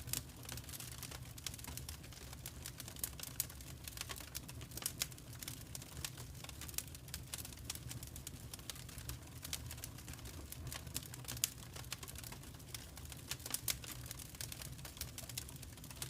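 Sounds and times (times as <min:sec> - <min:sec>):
low rumble of burning fire: 0:00.0 - 0:16.0
wood fire crackling: 0:00.0 - 0:16.0.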